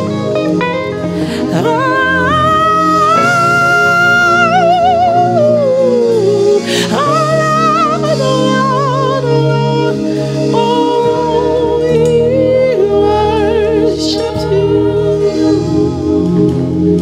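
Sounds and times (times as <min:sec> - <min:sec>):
person singing with vibrato: 0:00.0 - 0:17.0
sustained instrumental accompaniment: 0:00.0 - 0:17.0.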